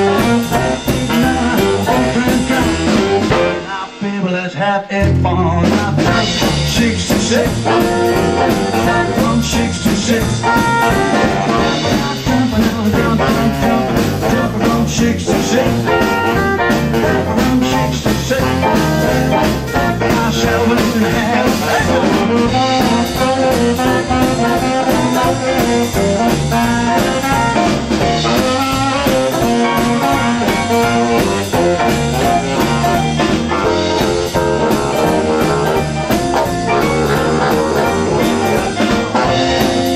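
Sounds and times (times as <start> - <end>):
saxophone: 0.0 - 4.0, 7.3 - 39.9
live rockabilly band playing: 0.0 - 39.9.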